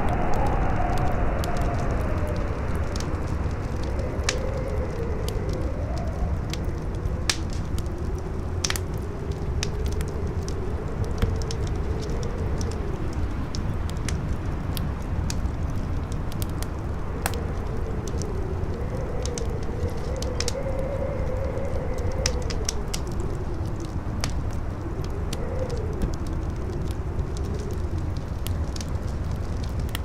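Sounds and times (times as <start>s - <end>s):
campfire crackling and popping: 0.0s - 30.0s
strong wind howling: 0.0s - 30.0s.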